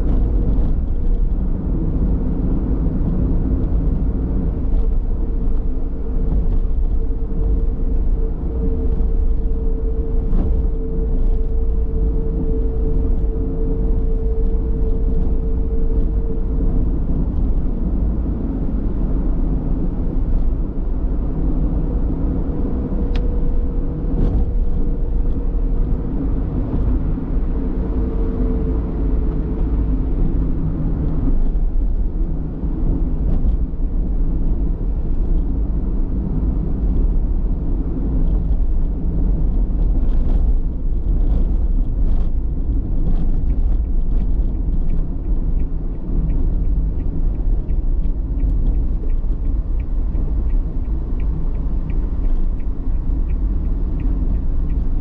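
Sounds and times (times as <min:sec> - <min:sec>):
car engine and road rumble: 0:00.0 - 0:55.0
steady droning tone: 0:00.0 - 0:55.0.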